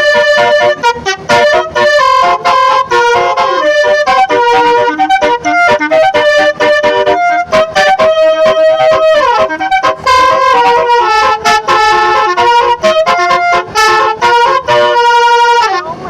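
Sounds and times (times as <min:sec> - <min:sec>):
musical horn playing a tune: 0:00.0 - 0:16.0.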